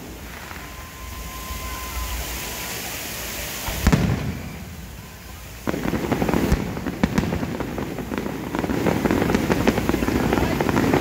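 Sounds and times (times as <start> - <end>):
fireworks bursting with crackles: 0.0 - 11.0.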